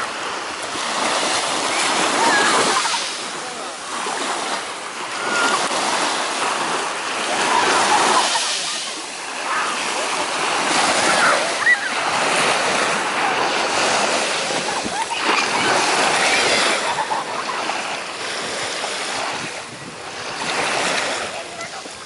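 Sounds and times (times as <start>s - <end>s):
waves breaking on sandy shore: 0.0s - 22.0s.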